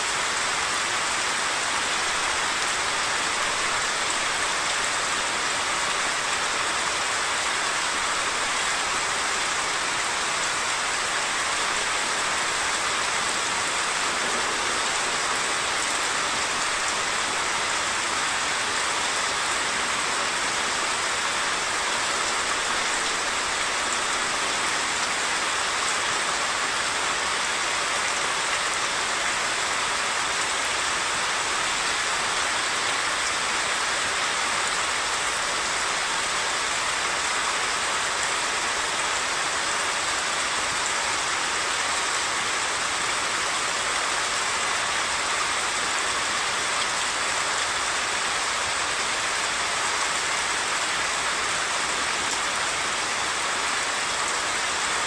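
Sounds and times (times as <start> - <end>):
flooded stream rushing: 0.0 - 55.0
heavy rain hissing: 0.0 - 55.0.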